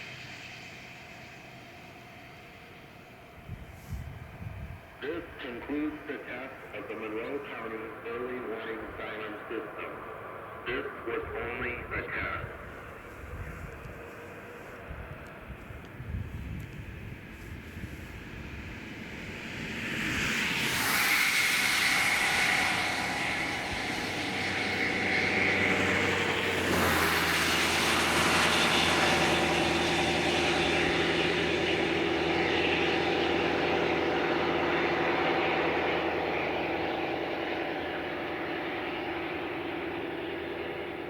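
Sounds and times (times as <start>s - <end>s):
road noise: 0.0s - 41.0s
vehicles passing: 0.0s - 41.0s.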